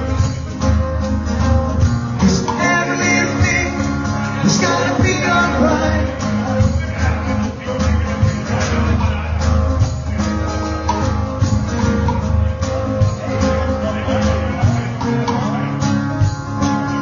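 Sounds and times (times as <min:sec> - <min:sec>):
acoustic reggae band playing: 0:00.0 - 0:17.0
strummed acoustic guitar: 0:00.0 - 0:17.0.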